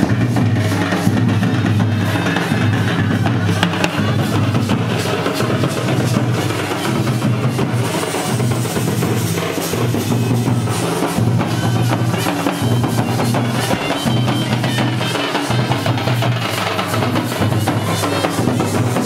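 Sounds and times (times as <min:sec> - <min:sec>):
barrel drums beaten in rhythm: 0:00.0 - 0:19.0.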